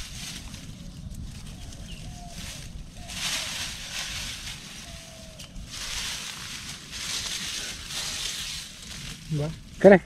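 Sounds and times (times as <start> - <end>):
hands rustling dry leaves: 0.0 - 10.0
steady low rumble: 0.0 - 10.0.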